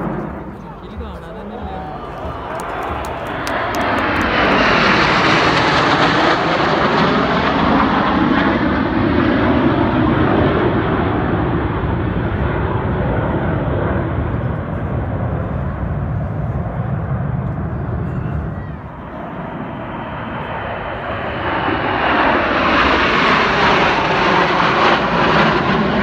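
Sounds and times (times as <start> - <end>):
jets roaring overhead: 0.0 - 26.0.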